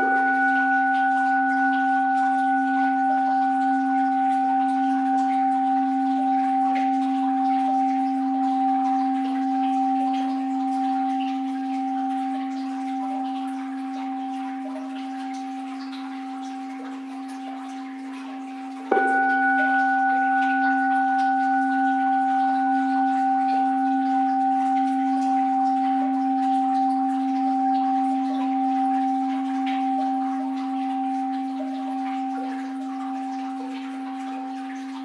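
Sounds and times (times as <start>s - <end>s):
bowl bell ringing: 0.0s - 35.0s.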